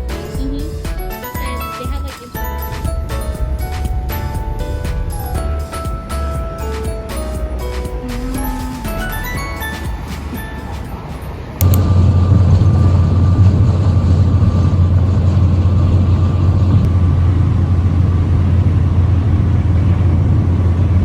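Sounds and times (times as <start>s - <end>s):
low rumble of moving vehicle: 2.5s - 10.6s, 11.2s - 21.0s.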